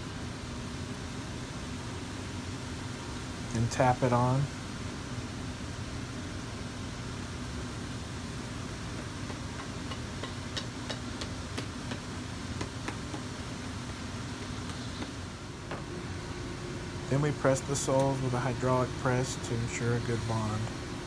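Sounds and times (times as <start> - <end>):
workshop machinery humming: 0.0 - 21.0.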